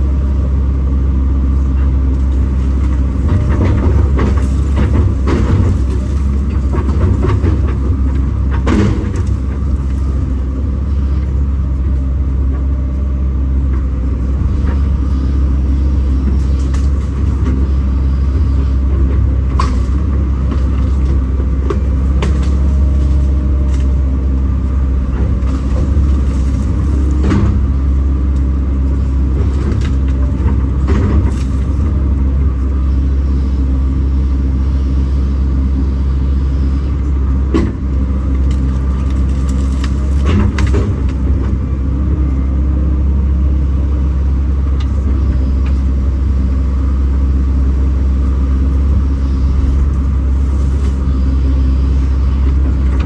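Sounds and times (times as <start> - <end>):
diesel engine running: 0.0 - 53.0
excavator knocks and clunks: 0.0 - 53.0.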